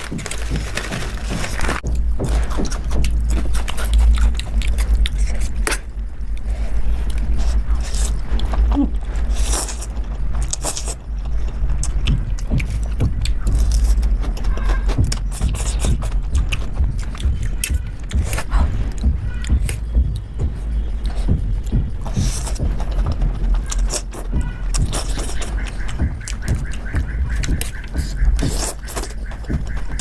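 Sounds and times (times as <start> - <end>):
chewing and mouth noises: 0.0 - 30.0
steady low rumble: 0.0 - 30.0.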